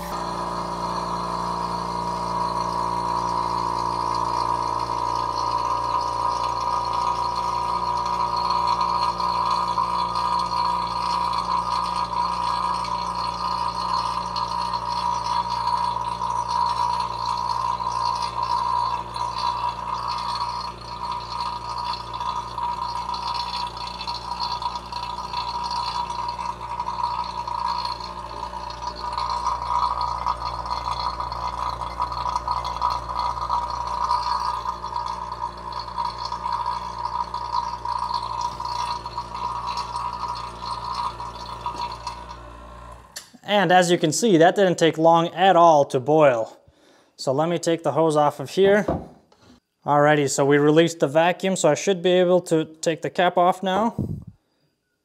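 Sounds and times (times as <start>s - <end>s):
vacuum pump running: 0.0s - 44.4s, 53.8s - 54.4s.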